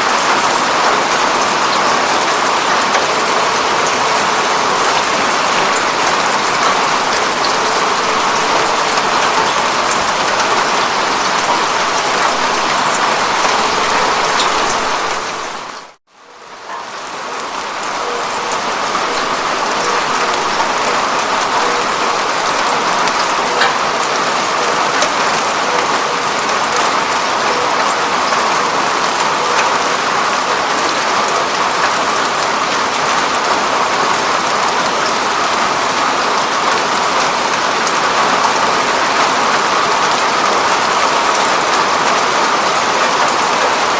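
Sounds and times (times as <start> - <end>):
rain on a window pane: 0.0 - 43.9.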